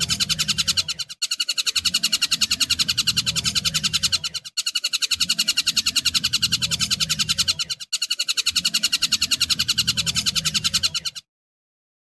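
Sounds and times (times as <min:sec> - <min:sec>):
kingfisher chattering call: 0:00.0 - 0:11.1.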